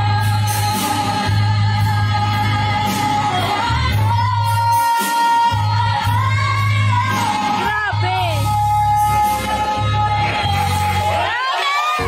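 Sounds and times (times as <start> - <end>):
backing music with bass line: 0.0 - 12.0.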